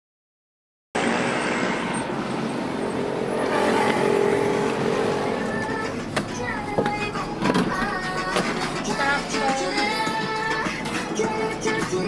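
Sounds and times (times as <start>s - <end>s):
bus diesel engine running: 1.0s - 12.0s
road traffic: 1.0s - 12.0s.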